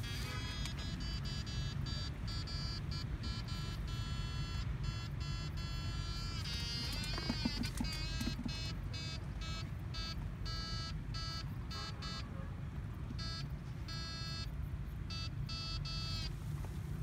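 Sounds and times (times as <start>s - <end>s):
electronic buzzing tone bursts: 0.0s - 12.3s, 13.2s - 16.4s.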